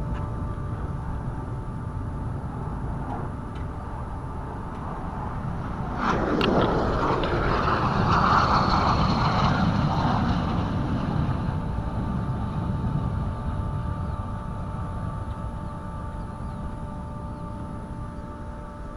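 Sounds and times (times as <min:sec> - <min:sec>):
jet aircraft roaring past: 0:00.0 - 0:18.9.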